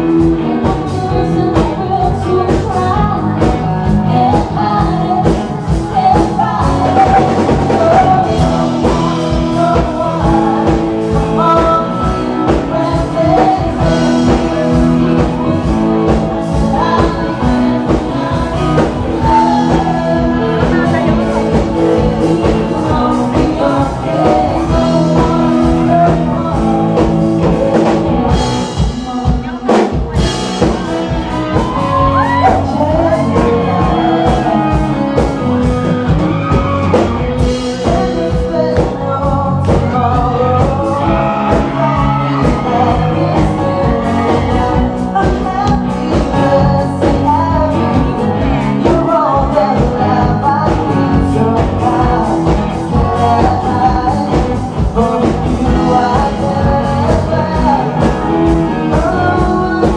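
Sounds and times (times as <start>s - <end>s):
band with electric guitar: 0.0s - 59.9s
man and woman singing duet: 0.0s - 59.9s.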